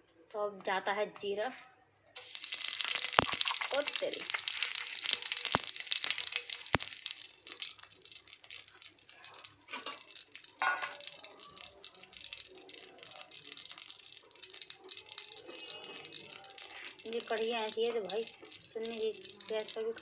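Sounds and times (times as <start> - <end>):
seeds sizzling in hot oil: 2.2 - 20.0.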